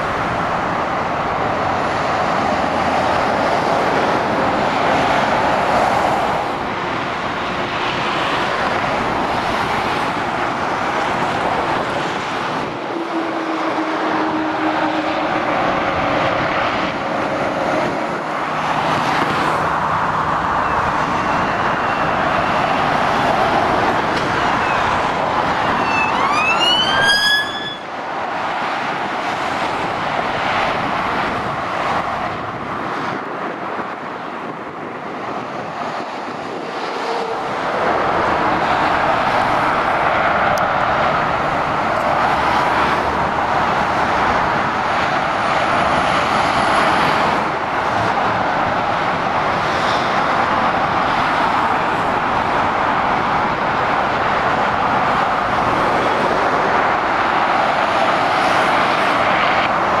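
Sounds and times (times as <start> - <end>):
motorway traffic rushing: 0.0 - 60.0.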